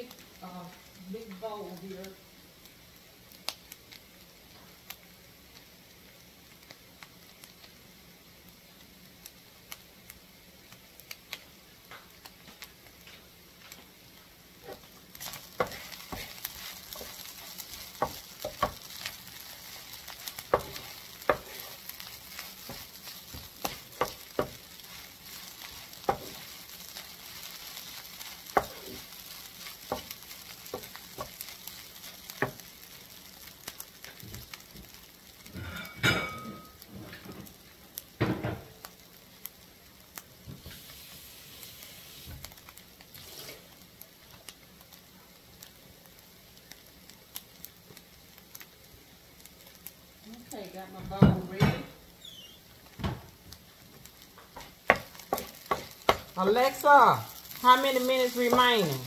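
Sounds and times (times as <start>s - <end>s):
sausage sizzling in a skillet: 0.0s - 59.0s.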